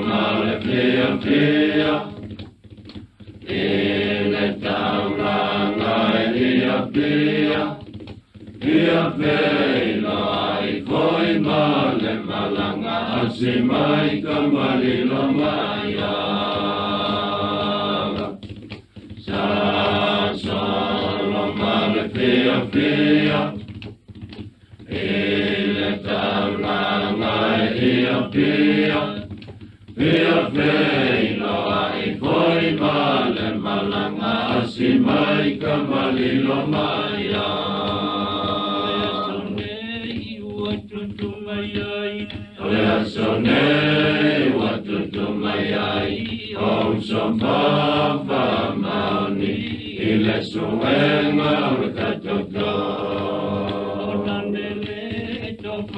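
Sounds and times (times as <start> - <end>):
group of voices singing: 0.0 - 2.3, 3.4 - 7.9, 8.6 - 18.5, 19.2 - 23.7, 24.8 - 55.9.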